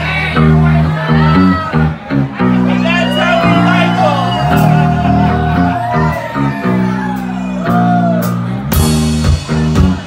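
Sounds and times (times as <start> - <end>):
rock band playing loudly: 0.0 - 10.0.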